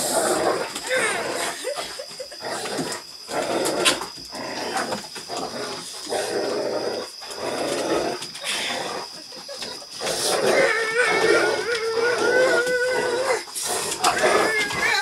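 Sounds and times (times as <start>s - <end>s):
dogs play-growling: 0.0s - 15.0s.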